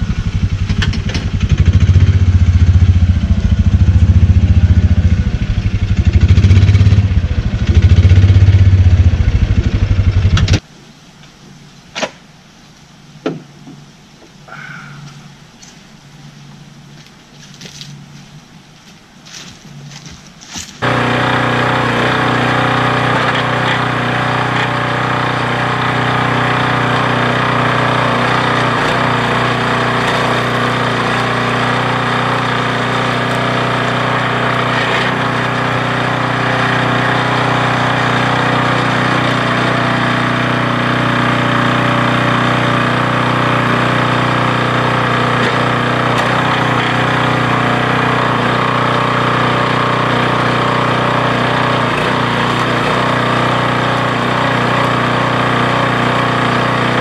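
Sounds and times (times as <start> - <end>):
small gasoline engine running: 0.0 - 10.6, 20.8 - 57.0.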